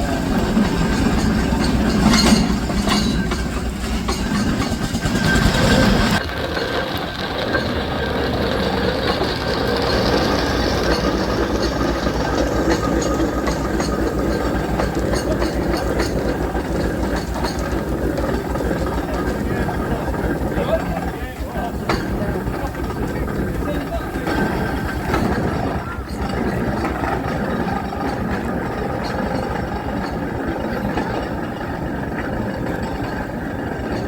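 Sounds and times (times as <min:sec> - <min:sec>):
steam engine rhythmic beat: 0:00.0 - 0:34.0
steam hissing: 0:00.0 - 0:34.0.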